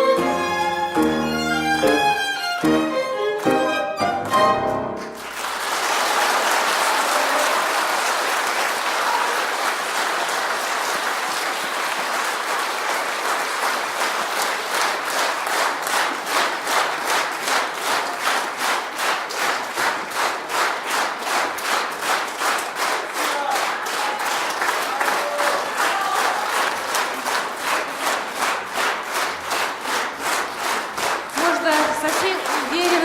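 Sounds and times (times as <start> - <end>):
audience applauding: 3.3 - 33.0.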